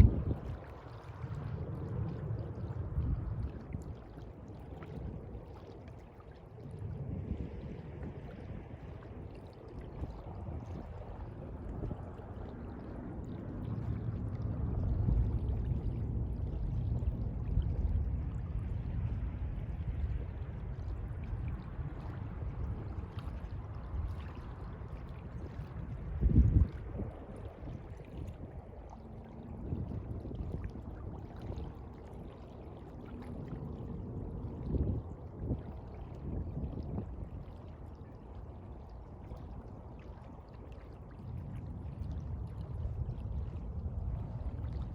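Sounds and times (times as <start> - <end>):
sea water lapping: 0.0 - 44.9.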